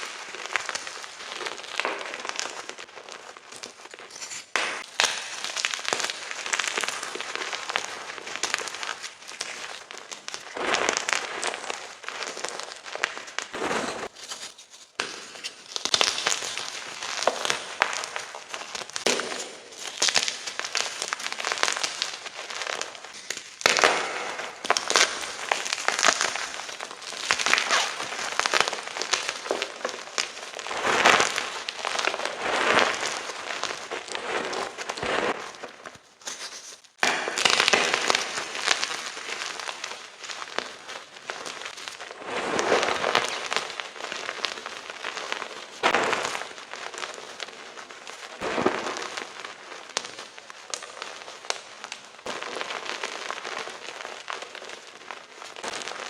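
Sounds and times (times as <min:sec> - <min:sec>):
chalk being crushed: 0:00.0 - 0:47.6.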